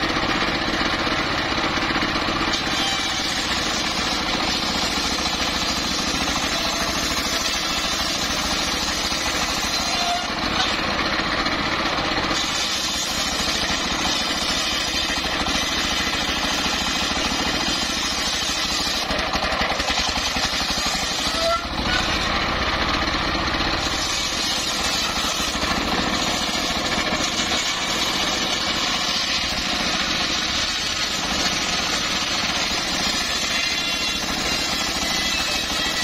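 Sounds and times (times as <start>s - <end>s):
circular saw ripping log: 2.3s - 36.0s.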